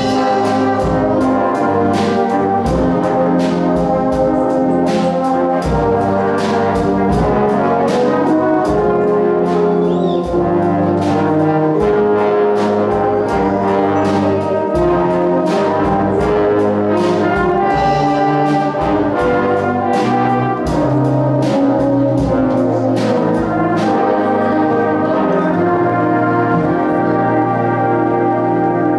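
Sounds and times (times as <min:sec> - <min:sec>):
drum kit beat: 0:00.0 - 0:27.2
brass band playing: 0:00.0 - 0:28.9.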